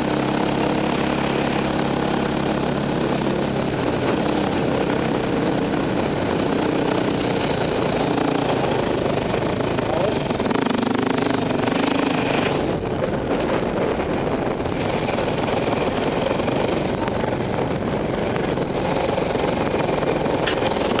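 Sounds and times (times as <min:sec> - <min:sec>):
dirt bike engines running: 0:00.0 - 0:21.0
wind noise on microphone: 0:00.0 - 0:21.0.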